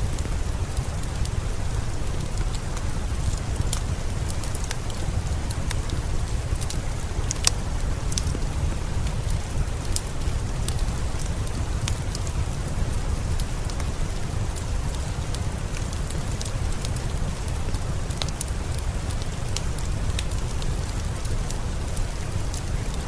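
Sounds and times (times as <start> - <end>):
fireplace pops and crackles: 0.0 - 23.0
steady rain: 0.0 - 23.0.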